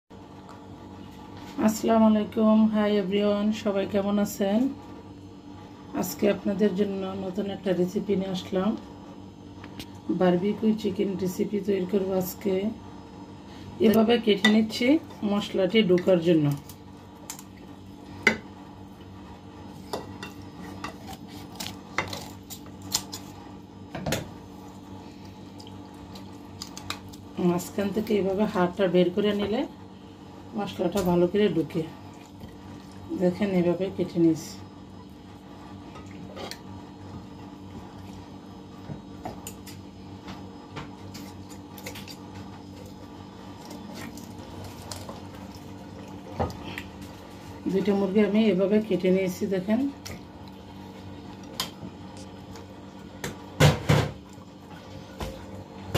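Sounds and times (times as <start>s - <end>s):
steady low hum: 0.1s - 55.9s.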